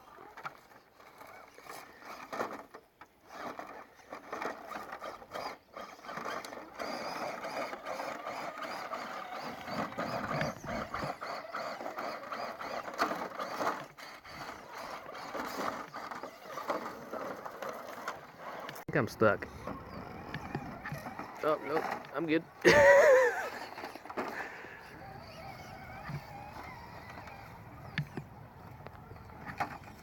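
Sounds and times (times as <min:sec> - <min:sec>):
small electric motor whining: 0:00.0 - 0:30.0
tyres scrabbling over dirt and rocks: 0:00.0 - 0:30.0.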